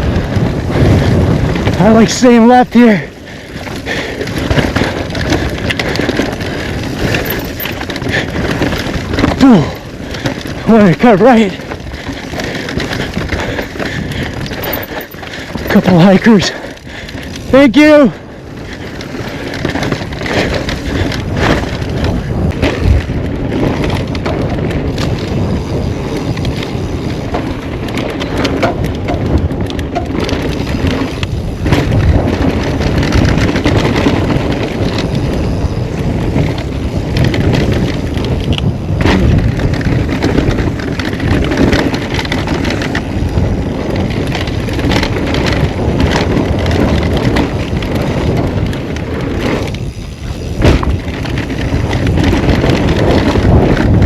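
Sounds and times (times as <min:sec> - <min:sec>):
bike rattling and clattering: 0:00.0 - 0:54.0.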